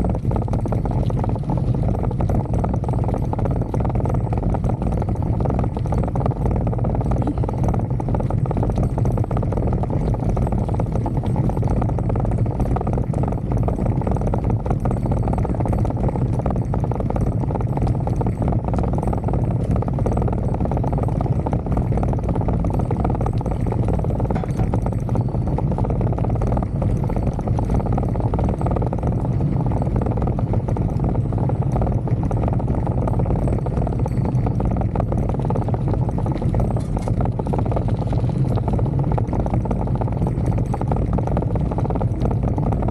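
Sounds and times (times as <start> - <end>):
bicycle tyre and road noise: 0.0 - 42.9
wind rush on microphone: 0.0 - 42.9.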